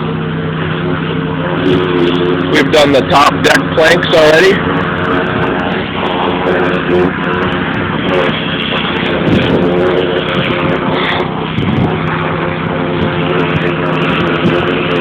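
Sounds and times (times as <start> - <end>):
pressure washer engine running: 0.0 - 15.0
water jet spraying on wood: 0.0 - 15.0.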